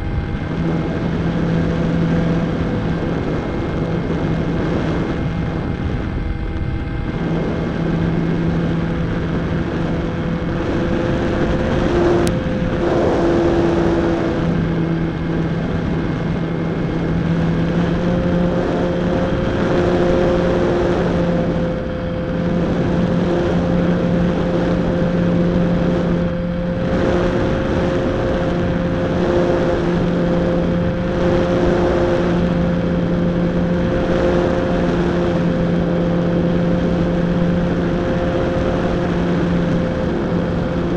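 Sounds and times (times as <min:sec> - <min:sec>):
electric motor and propeller hum: 0:00.0 - 0:40.9
wind rushing over microphone: 0:00.0 - 0:40.9.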